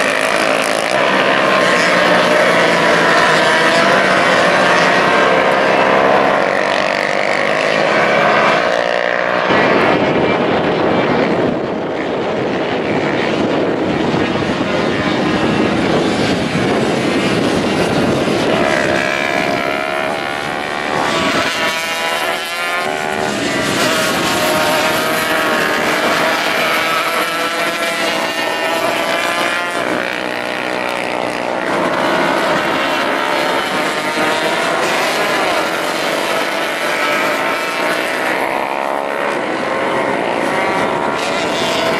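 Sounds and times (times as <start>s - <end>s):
racing motorcycles at full throttle: 0.0s - 41.9s.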